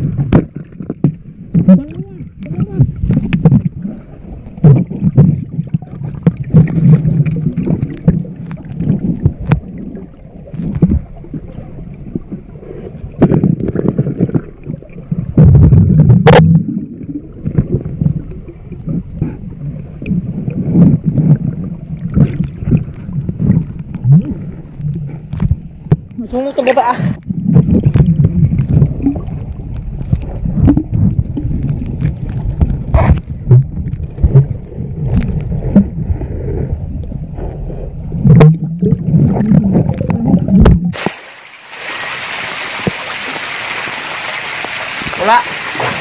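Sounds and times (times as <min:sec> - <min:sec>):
underwater water sloshing: 0:00.0 - 0:46.0.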